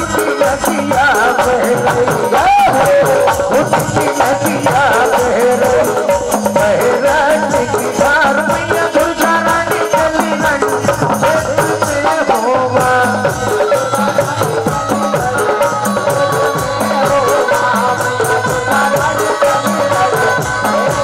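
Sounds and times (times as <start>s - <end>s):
percussion with jingling rattles: 0.0s - 21.0s.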